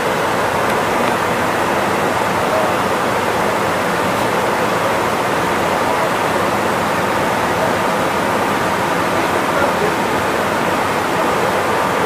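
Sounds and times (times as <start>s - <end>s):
train rolling noise: 0.0s - 12.0s.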